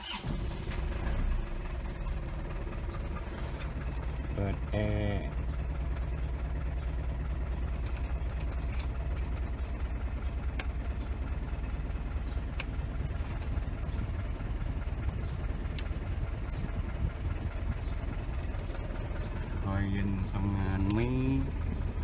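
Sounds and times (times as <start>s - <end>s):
pickup engine idling: 0.0s - 22.0s.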